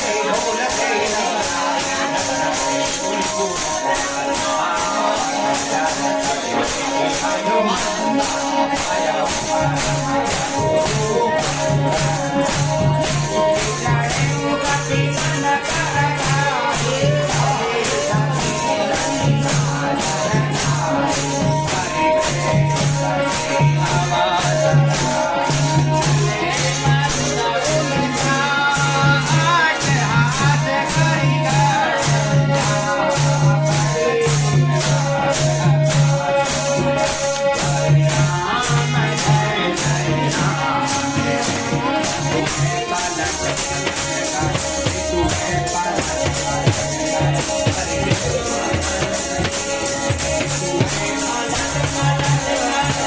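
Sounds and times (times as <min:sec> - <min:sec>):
devotional singing: 0:00.0 - 0:53.0
tambourine-like jingles: 0:00.0 - 0:53.0.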